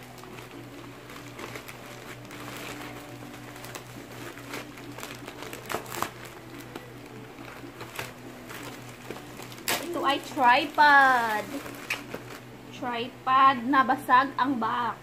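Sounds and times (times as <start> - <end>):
plastic pouch crinkling: 0.0 - 12.6.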